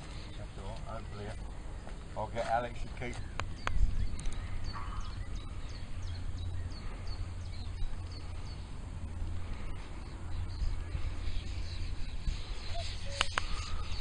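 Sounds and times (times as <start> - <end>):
bird chirping: 0.0 - 14.0
wind rumble on microphone: 0.0 - 14.0.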